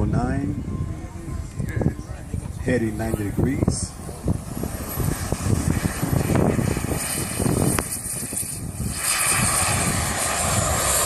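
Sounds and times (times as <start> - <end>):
low rumble: 0.0 - 11.0
model jet turbine whining: 0.0 - 11.0.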